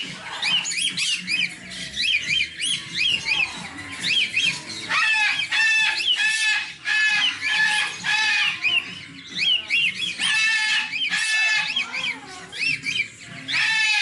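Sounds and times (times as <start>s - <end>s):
cockatoo harsh loud calls: 0.0s - 14.0s
high bird chirps: 0.0s - 14.0s.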